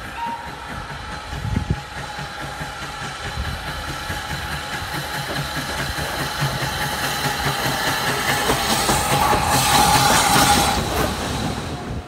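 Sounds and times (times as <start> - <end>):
steam locomotive exhaust beats: 0.0 - 12.0.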